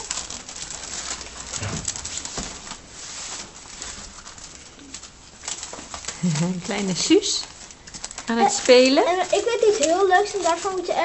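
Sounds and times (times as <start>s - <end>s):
newspaper rustling and crinkling: 0.0s - 11.0s.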